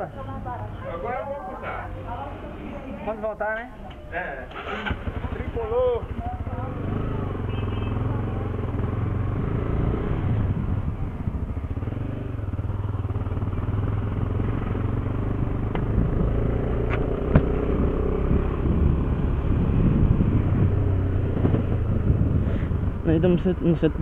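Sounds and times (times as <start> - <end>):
motorcycle engine running: 4.5 - 24.0.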